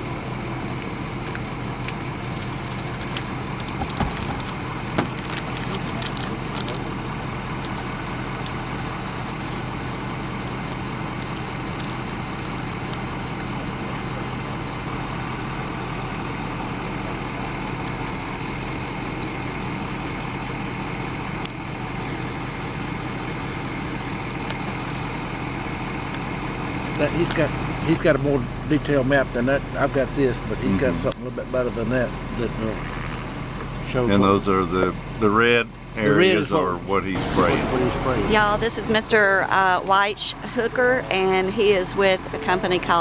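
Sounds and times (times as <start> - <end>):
vehicle engine humming: 0.0 - 43.0.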